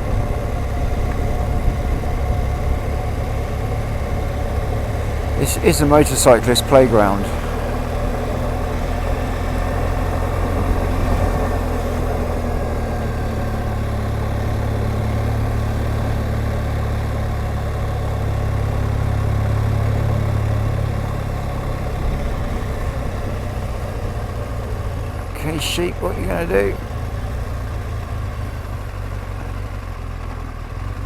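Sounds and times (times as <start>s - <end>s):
motorcycle engine droning: 0.0s - 31.0s.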